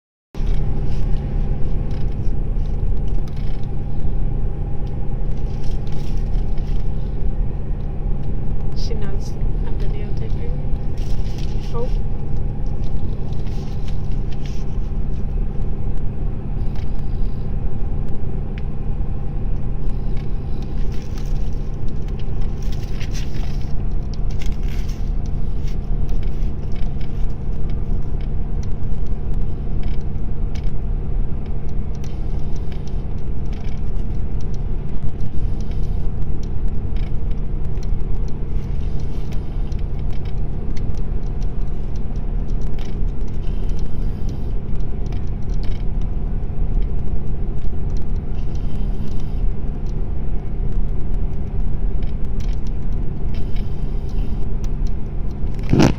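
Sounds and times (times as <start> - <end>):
car engine and road noise: 0.4 - 55.9.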